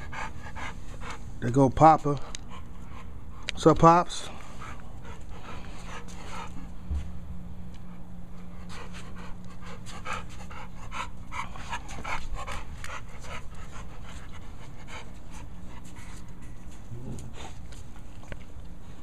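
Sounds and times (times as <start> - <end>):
dog panting: 0.0 - 6.8, 7.9 - 19.0
steady low hum: 0.0 - 19.0.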